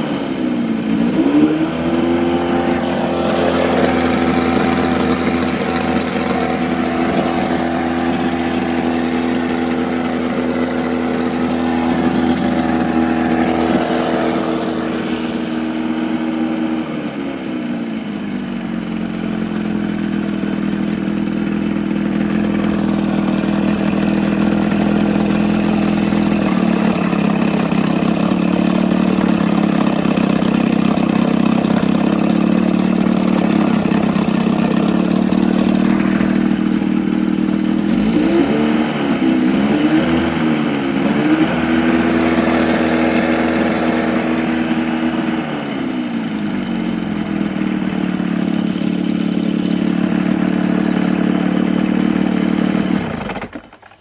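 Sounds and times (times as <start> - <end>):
outboard motor idling: 0.0 - 54.0
outboard motor revving: 0.0 - 54.0.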